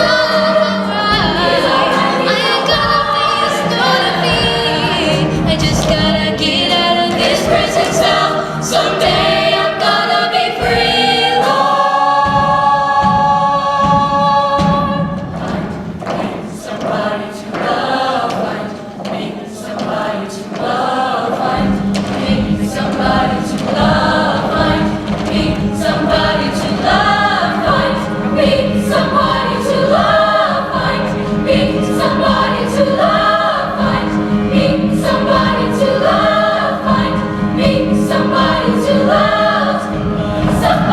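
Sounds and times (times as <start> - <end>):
choir singing in harmony: 0.0 - 40.9
instrumental backing: 0.0 - 40.9
steady percussion: 0.0 - 40.9.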